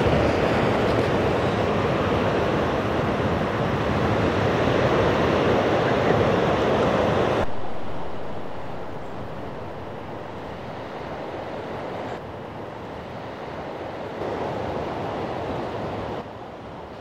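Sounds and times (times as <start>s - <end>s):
wind on microphone: 0.0s - 13.6s
small waves breaking on beach: 0.0s - 17.0s.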